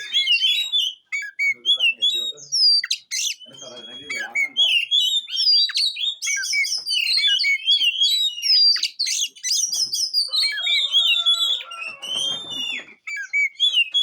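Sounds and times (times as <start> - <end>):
songbird whistling and chirping: 0.0 - 14.0.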